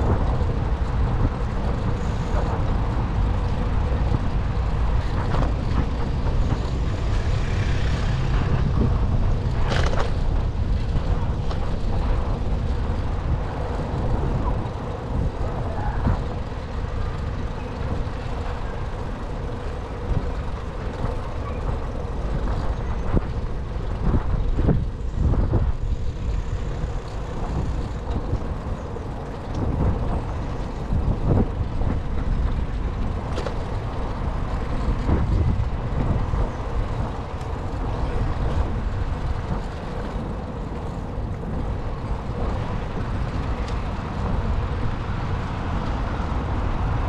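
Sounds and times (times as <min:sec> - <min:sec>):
city street traffic: 0:00.0 - 0:47.0
wind and road rumble: 0:00.0 - 0:47.0.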